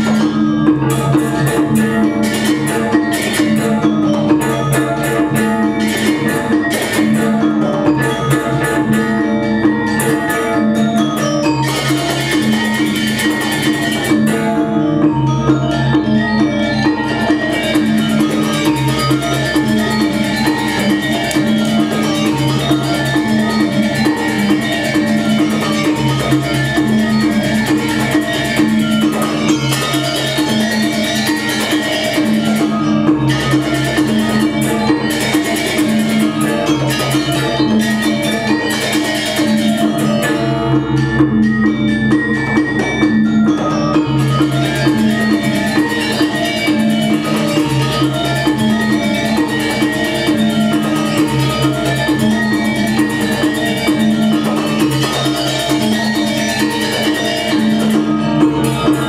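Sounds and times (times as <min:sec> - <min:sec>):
gamelan music: 0:00.0 - 0:59.0.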